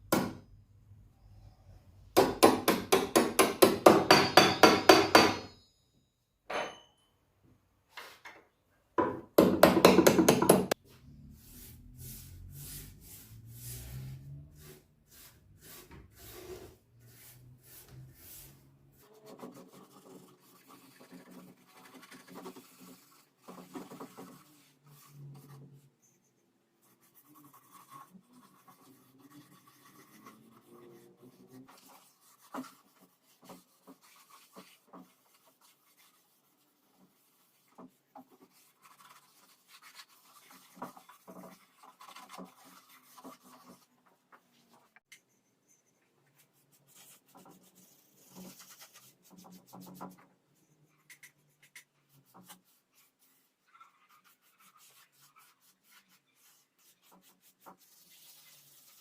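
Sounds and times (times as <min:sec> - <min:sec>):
rubbing and scraping: 0:09.8 - 0:59.0.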